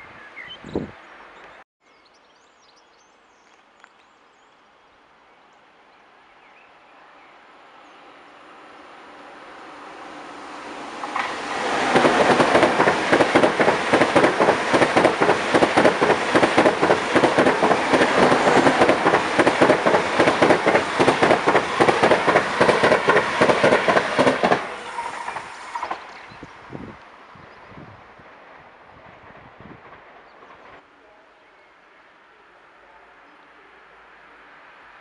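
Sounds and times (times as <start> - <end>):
faint distant rail sounds: 3.4 - 35.0
high-speed train passing: 6.1 - 35.0.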